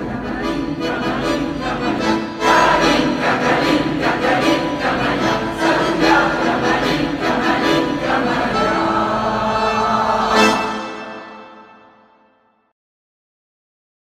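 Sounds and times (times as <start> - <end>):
mixed choir singing: 0.0 - 12.0.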